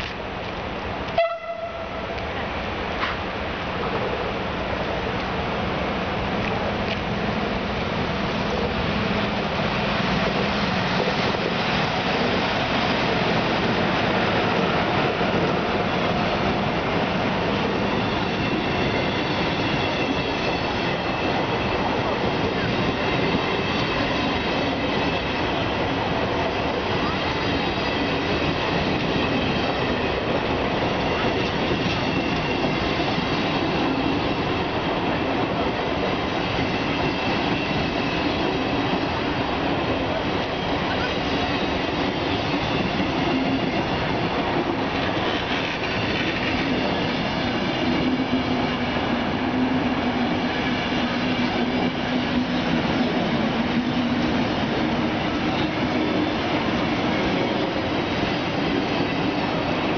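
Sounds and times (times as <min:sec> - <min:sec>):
train running on rails: 0:00.0 - 0:59.9.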